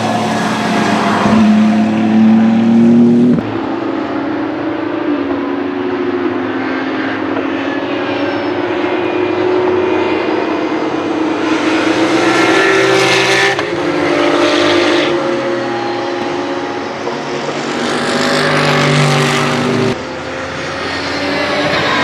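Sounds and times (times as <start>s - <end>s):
racing car engines passing: 0.0s - 22.0s.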